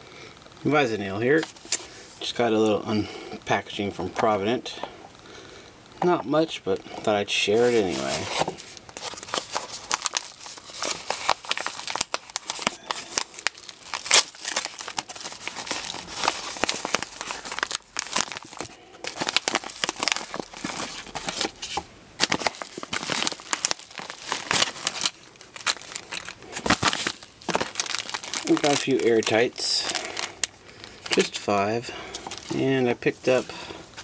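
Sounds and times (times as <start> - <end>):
packaging crinkling and tearing: 1.3 - 2.9, 7.5 - 34.0.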